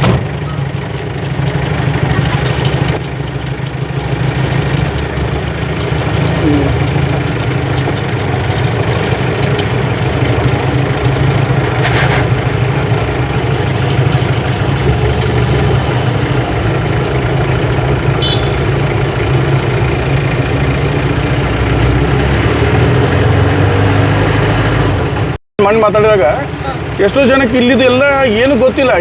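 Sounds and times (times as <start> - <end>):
vehicle engine humming while driving: 0.0 - 29.0.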